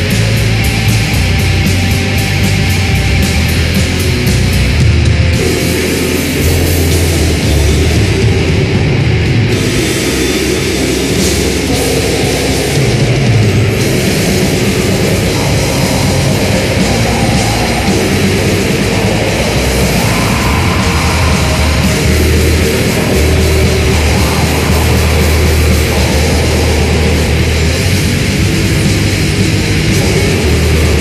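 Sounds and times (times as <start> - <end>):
loud extreme metal music: 0.0 - 31.0.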